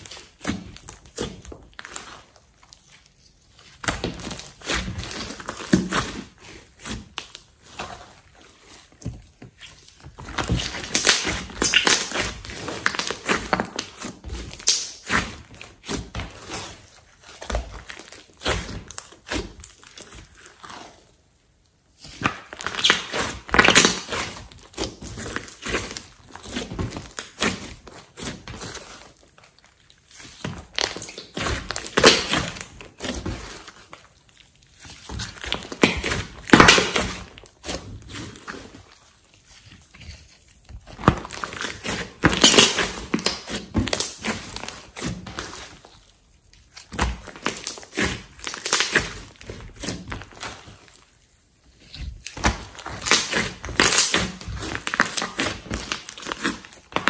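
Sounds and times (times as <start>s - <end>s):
slime squelching by hand: 0.0s - 57.0s.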